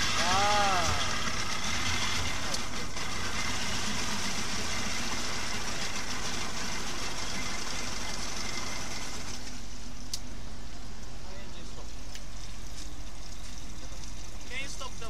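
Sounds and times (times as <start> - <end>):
outboard engine running: 0.0 - 9.8, 11.3 - 15.0.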